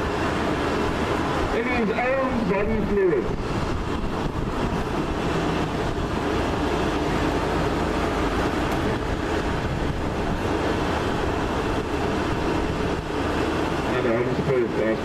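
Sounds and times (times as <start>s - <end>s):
wind on microphone: 0.0s - 13.9s.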